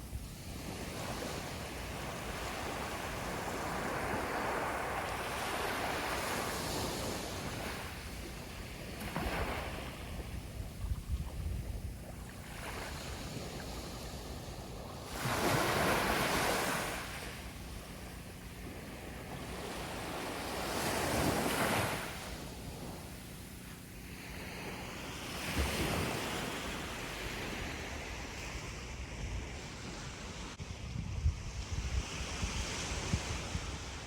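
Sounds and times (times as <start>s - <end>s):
sea waves breaking on beach: 0.0s - 30.6s.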